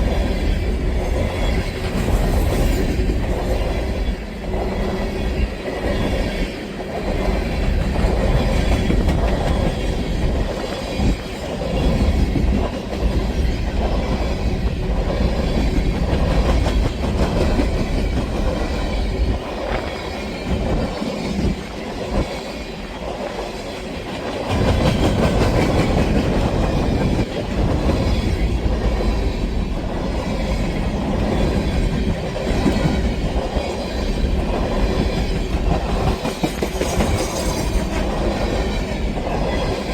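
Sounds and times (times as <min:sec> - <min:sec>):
freight train clattering over rails: 0:00.0 - 0:39.9.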